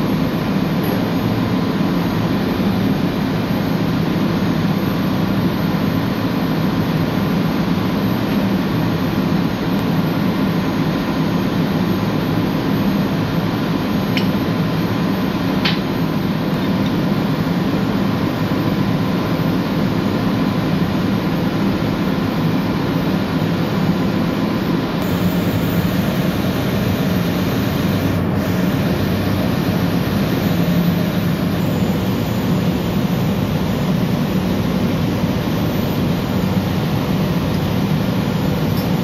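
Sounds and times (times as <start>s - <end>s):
ship machinery drone: 0.0s - 39.0s.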